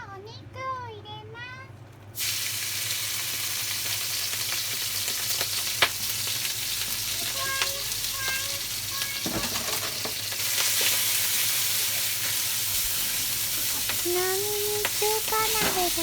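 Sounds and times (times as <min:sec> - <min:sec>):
meat sizzling in a wok: 0:02.2 - 0:16.0.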